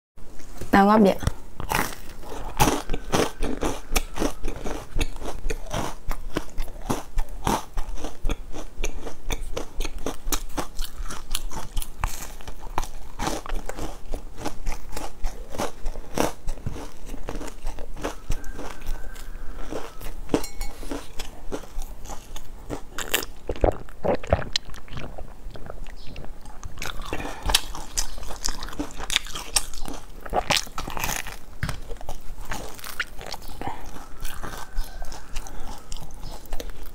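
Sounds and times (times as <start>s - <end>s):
crunching biscuits: 1.2s - 36.9s.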